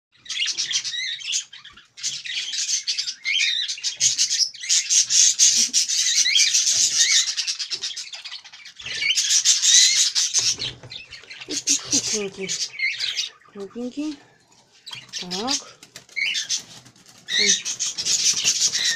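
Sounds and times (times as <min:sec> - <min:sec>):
parrot chattering and squawking: 0:00.2 - 0:14.3, 0:14.9 - 0:18.9.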